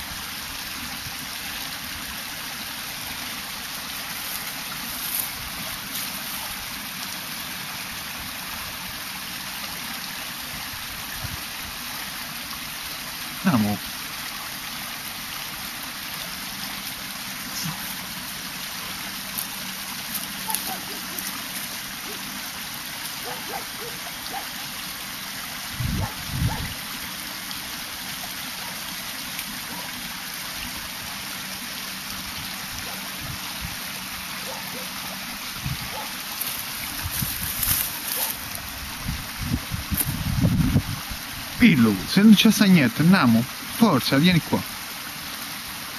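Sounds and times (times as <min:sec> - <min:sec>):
stream trickling over stones: 0:00.0 - 0:45.9.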